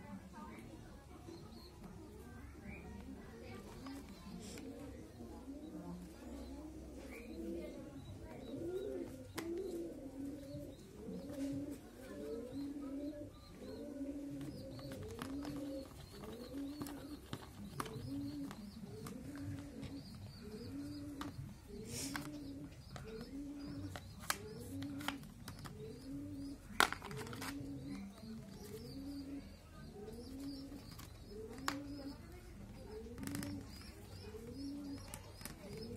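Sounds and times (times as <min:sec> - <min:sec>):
pigeons cooing: 0:00.0 - 0:35.9.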